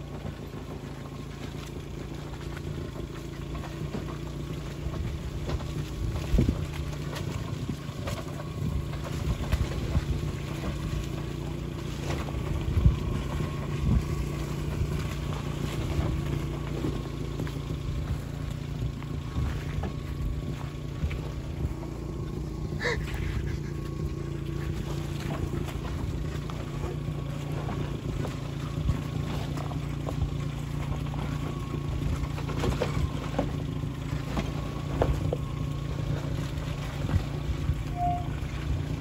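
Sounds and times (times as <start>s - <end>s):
car engine running: 0.0s - 39.0s
vehicle knocks and rattles: 0.0s - 39.0s.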